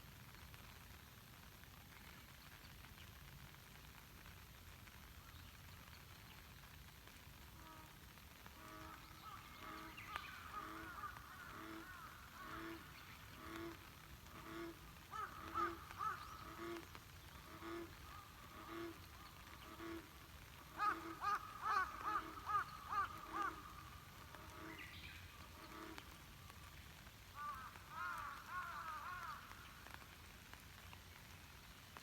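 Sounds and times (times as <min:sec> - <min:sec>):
rain on a lake: 0:00.0 - 0:32.0.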